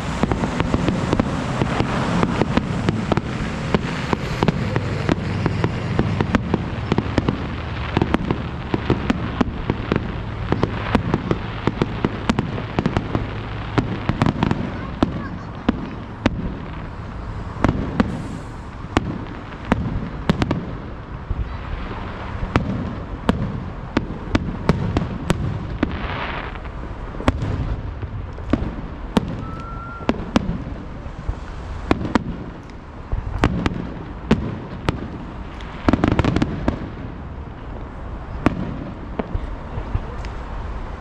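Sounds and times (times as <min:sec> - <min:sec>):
fireworks bangs: 0:00.0 - 0:41.0
fireworks crackling: 0:00.0 - 0:41.0
low rumble of booms: 0:00.0 - 0:41.0.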